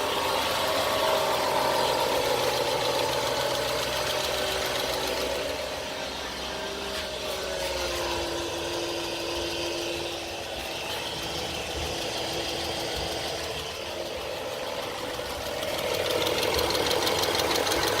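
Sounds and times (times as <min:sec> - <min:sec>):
fast ticking rattle: 0:00.0 - 0:05.8, 0:08.7 - 0:18.0
car engine whine: 0:00.0 - 0:18.0.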